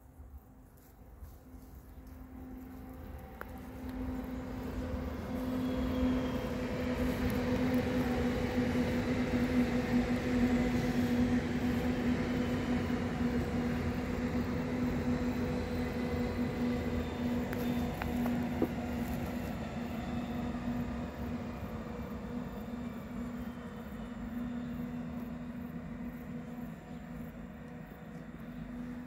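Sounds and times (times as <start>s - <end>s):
passenger train passing on track: 0.0s - 29.0s.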